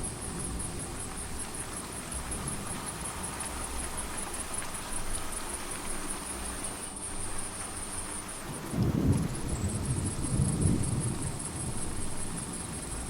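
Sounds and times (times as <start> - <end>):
crickets chirping: 0.0 - 13.0
steady rain: 0.0 - 13.0.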